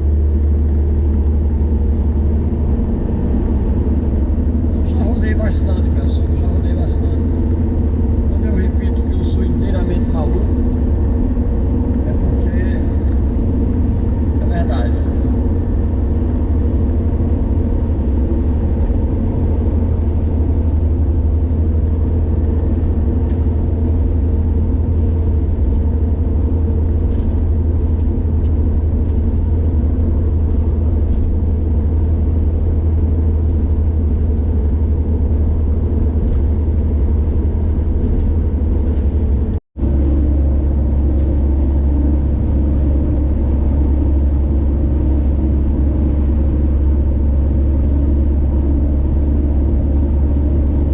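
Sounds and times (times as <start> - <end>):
car engine and road rumble: 0.0 - 50.9.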